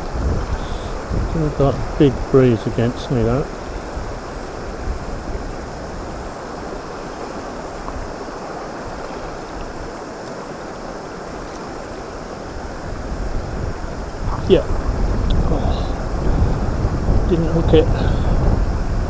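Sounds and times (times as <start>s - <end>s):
river flowing over riffles: 0.0s - 19.0s
wind buffeting microphone: 0.0s - 19.0s.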